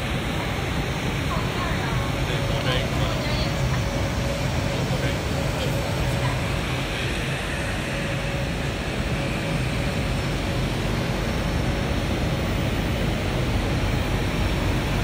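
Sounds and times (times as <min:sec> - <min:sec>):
exhaust fans rushing: 0:00.0 - 0:15.0.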